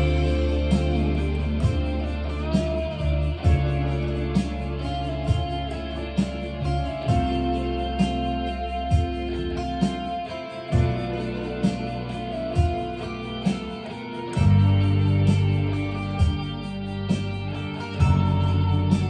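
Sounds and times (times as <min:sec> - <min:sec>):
electric guitar: 0:00.0 - 0:19.0
long low bass notes: 0:00.0 - 0:19.0
steady drum beat: 0:00.0 - 0:19.0.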